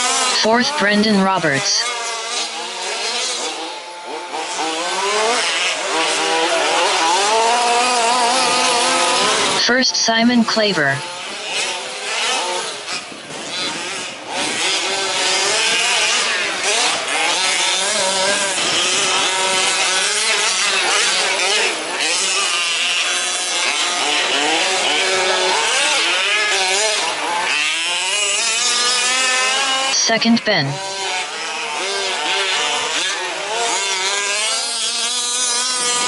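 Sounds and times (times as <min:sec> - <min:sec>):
small engines buzzing and revving: 0:00.0 - 0:36.0.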